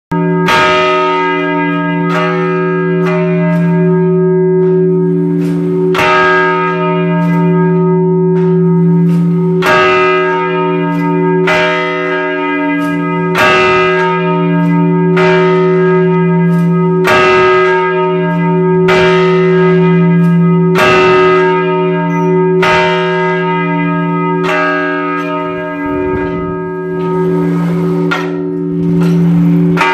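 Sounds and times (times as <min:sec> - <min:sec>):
church bell ringing: 0:00.1 - 0:29.9.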